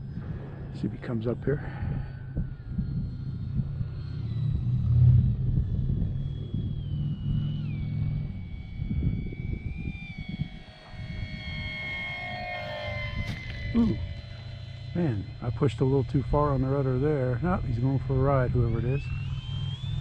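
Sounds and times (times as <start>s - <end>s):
electric motor whine: 0.0s - 20.0s
motorcycle engine rumbling: 0.0s - 20.0s
wind buffeting microphone: 0.0s - 20.0s.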